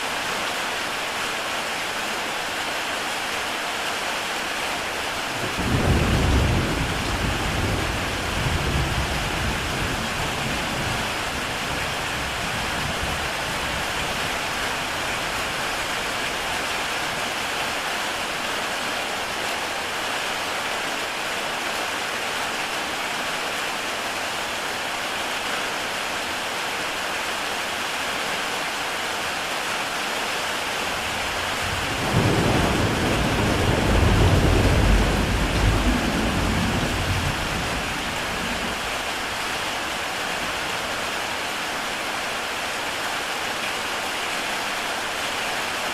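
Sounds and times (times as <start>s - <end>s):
heavy rain on tile roof: 0.0s - 45.9s.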